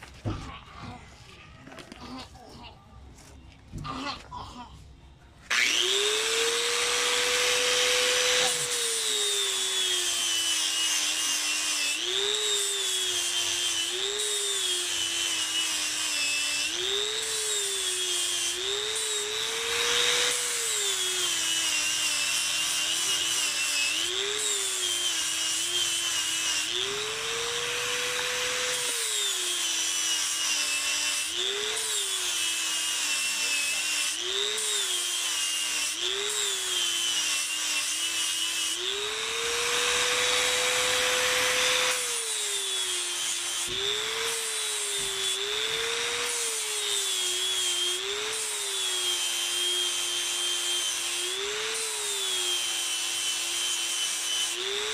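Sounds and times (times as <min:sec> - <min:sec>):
angle grinder motor whine: 0:05.5 - 0:54.9.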